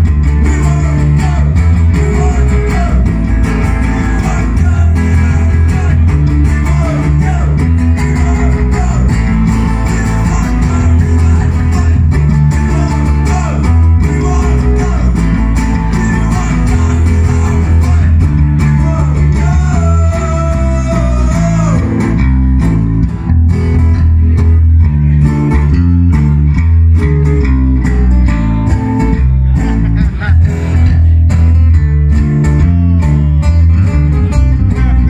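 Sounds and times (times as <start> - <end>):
bass guitar: 0.0 - 35.0
drums: 0.0 - 35.0
strummed acoustic guitars: 0.0 - 35.0.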